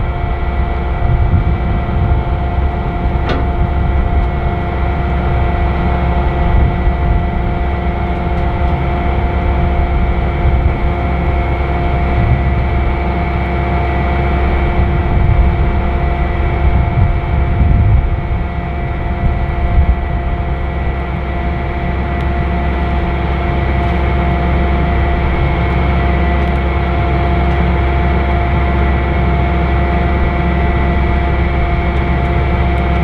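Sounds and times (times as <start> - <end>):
combine harvester drone: 0.0 - 33.0
steady whining tones: 0.0 - 33.0.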